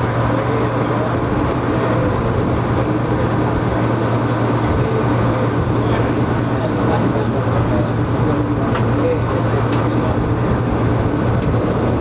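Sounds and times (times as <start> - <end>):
railcar diesel engine droning: 0.0 - 12.0
wind rushing at open window: 0.0 - 12.0.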